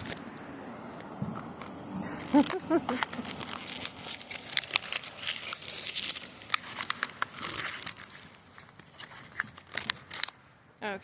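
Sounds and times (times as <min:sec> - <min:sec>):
packaging crinkling: 0:01.6 - 0:10.4.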